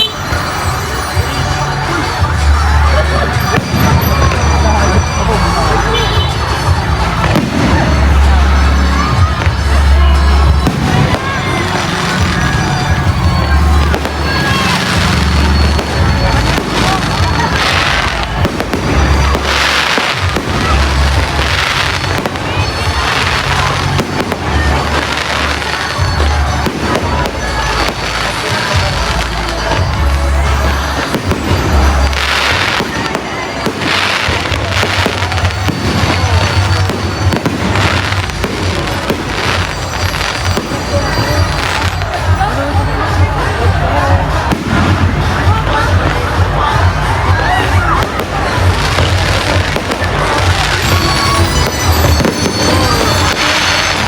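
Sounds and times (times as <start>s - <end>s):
crackling firework shells: 0.0s - 54.0s
fireworks booming: 0.0s - 54.0s
music with steady bass line: 0.0s - 54.0s.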